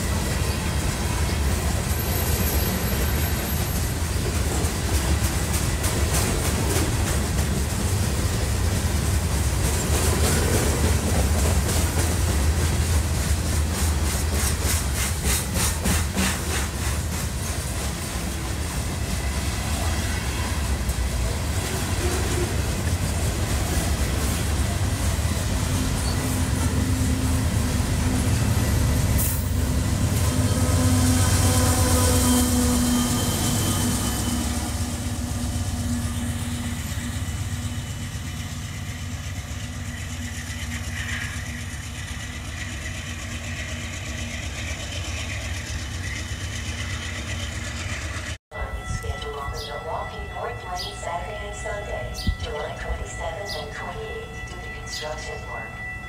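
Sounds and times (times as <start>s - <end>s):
freight cars rumbling on rails: 0.0s - 55.8s
diesel locomotive engine drone: 0.0s - 56.0s.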